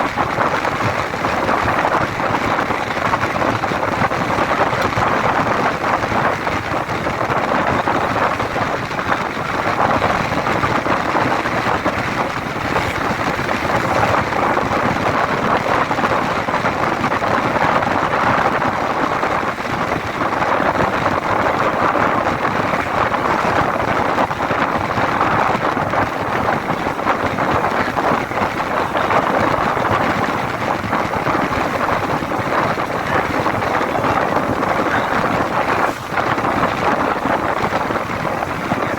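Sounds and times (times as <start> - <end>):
moving vehicle rushing noise: 0.0 - 16.5, 18.7 - 38.9
wind on microphone: 0.0 - 38.9.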